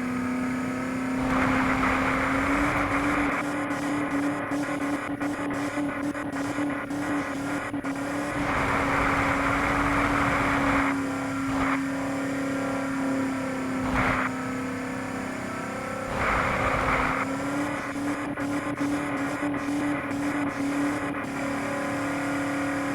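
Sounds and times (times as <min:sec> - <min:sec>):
vehicle engine running and revving: 0:00.0 - 0:22.9.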